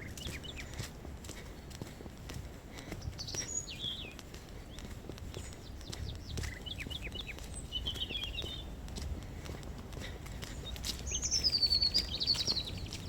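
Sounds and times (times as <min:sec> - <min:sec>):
footsteps on forest path: 0:00.0 - 0:13.0
small birds chirping: 0:00.0 - 0:13.0.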